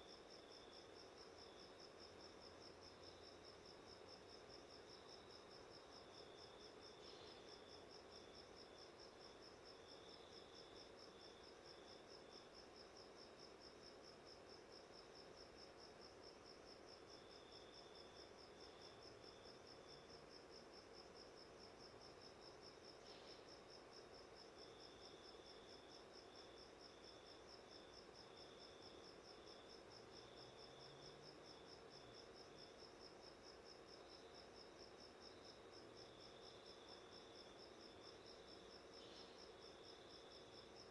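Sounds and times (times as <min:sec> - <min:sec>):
lower cricket chirping: 0:00.0 - 0:40.9.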